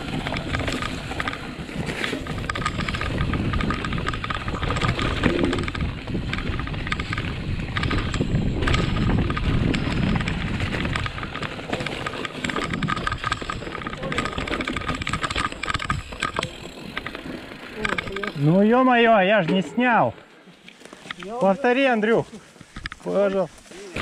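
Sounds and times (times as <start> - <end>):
bike rattling over bumps: 0.0 - 24.0
bike tyres rolling over dirt: 0.0 - 24.0.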